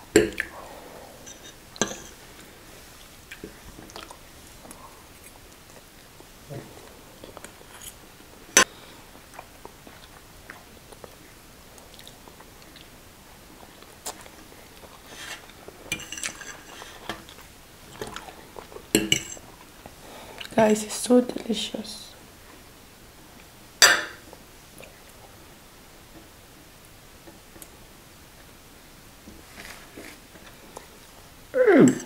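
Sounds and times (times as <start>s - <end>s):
people chewing food: 0.0s - 20.7s, 24.2s - 28.6s, 29.3s - 32.0s.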